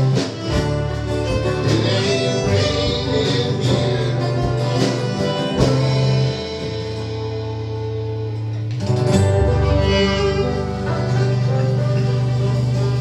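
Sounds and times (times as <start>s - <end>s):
fiddle: 0.0s - 13.0s
guitars strumming chords: 0.0s - 13.0s
steady bass: 0.0s - 13.0s.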